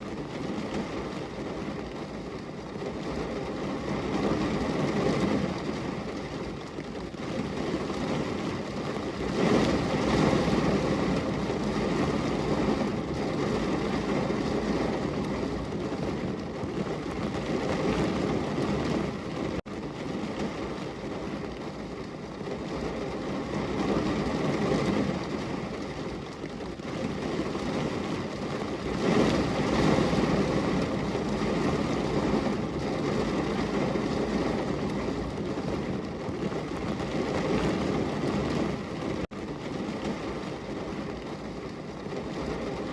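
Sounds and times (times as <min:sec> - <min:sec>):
heavy rain on a window: 0:00.0 - 0:42.9.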